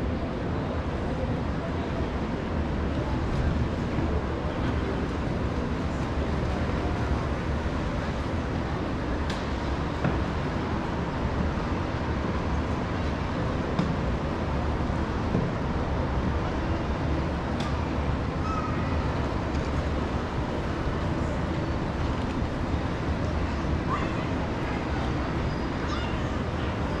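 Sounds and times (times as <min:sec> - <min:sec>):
distant city traffic rumble: 0:00.0 - 0:27.0.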